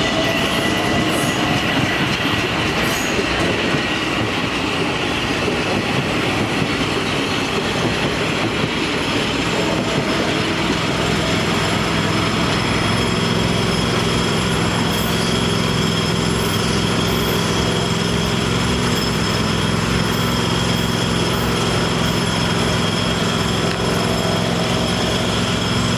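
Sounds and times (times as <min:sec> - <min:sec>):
electric train rumbling: 0:00.0 - 0:25.9.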